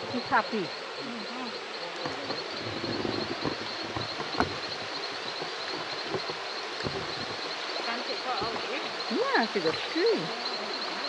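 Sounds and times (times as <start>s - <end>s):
flowing water: 0.0s - 11.0s
insect chorus trilling: 0.0s - 11.0s.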